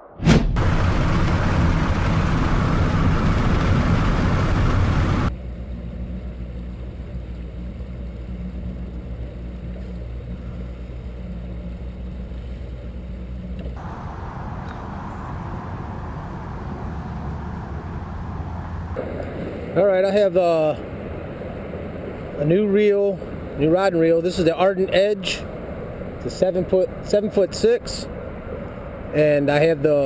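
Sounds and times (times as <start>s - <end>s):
rushing wind: 0.0s - 5.4s, 9.4s - 30.0s
water noise: 0.0s - 30.0s
motorboat engine: 0.6s - 13.8s, 15.7s - 30.0s.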